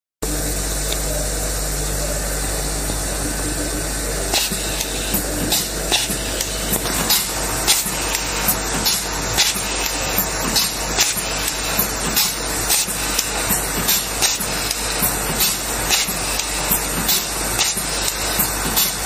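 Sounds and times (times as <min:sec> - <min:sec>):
machine hiss over low hum: 0:00.2 - 0:19.0.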